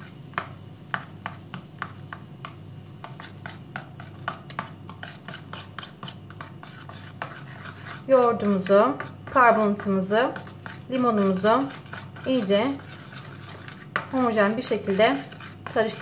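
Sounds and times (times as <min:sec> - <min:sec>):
metal spoon stirring paste in bowl: 0:00.0 - 0:16.0.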